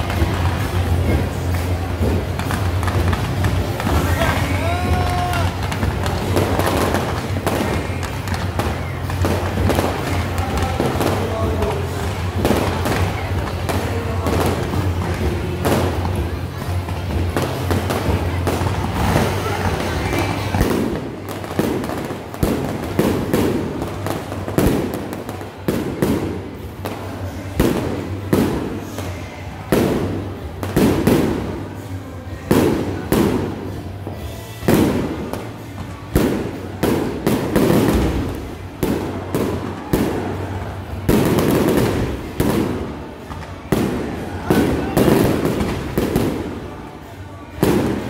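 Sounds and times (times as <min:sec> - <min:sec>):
fireworks booming: 0:00.0 - 0:31.9, 0:32.5 - 0:46.8, 0:47.5 - 0:48.0.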